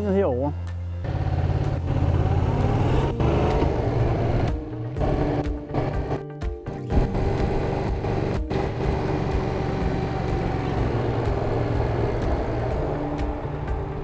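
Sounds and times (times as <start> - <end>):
motorcycle engine running: 1.0 - 6.3, 6.9 - 14.0.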